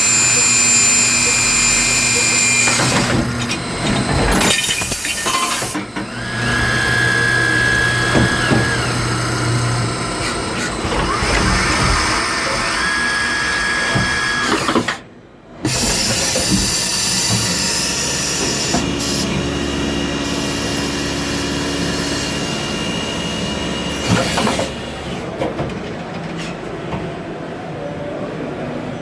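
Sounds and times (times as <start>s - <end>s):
lathe machine noise: 0.0s - 14.9s, 15.7s - 25.2s.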